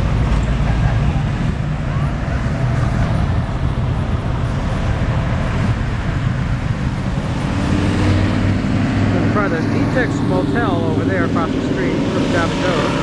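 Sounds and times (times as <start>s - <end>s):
car engines rumbling past: 0.0s - 13.0s.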